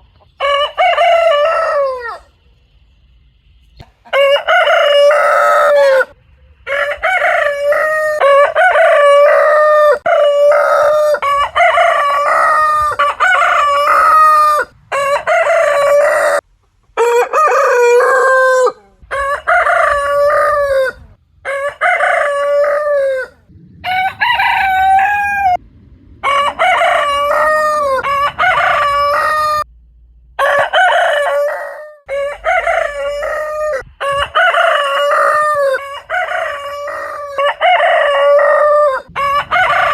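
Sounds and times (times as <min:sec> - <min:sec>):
roosters crowing: 0:00.0 - 0:02.4, 0:03.8 - 0:25.6, 0:26.2 - 0:29.7, 0:30.4 - 0:39.9.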